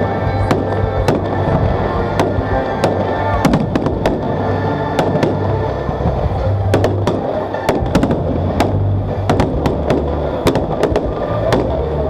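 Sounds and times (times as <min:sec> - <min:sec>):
fireworks bangs and cracks: 0:00.0 - 0:12.0
music playing: 0:00.0 - 0:12.0.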